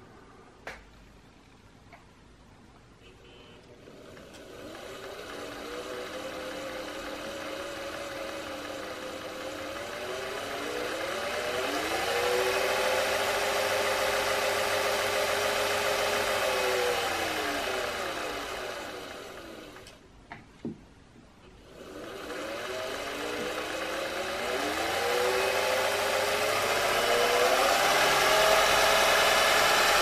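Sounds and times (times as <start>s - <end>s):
sewing machine running: 3.8s - 20.0s, 21.6s - 30.0s.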